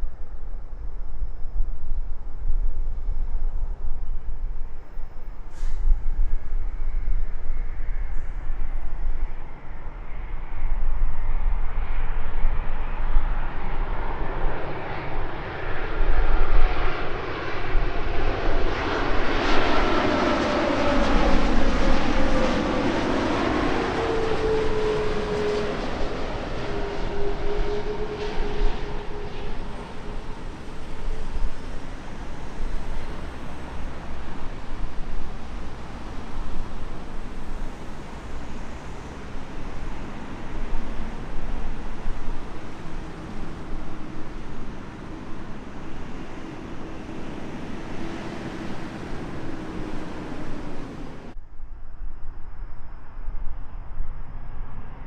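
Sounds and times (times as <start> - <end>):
jet airliner passing overhead: 2.7 - 51.4.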